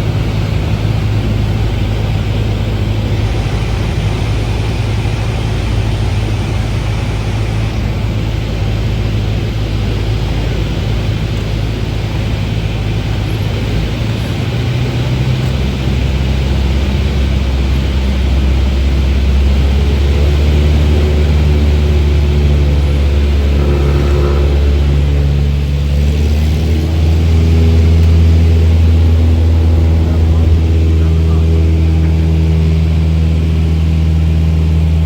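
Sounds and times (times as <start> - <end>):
propeller airplane engine drone: 0.0 - 35.0.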